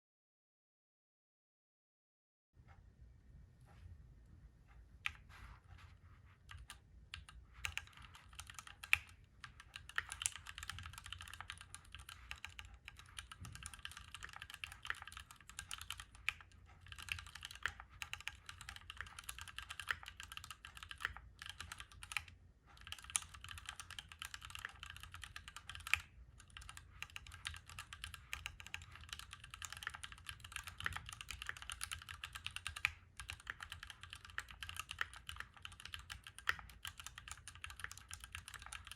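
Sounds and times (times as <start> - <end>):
mechanical keyboard typing: 6.5 - 38.9.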